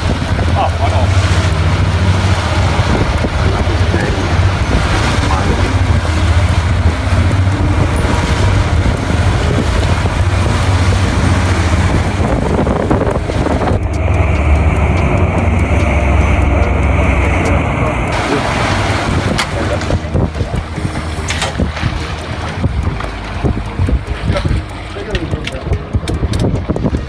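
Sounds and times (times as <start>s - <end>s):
boat engine running: 0.0s - 27.0s
steady higher whine: 0.0s - 27.0s
wind buffeting microphone: 0.0s - 27.0s.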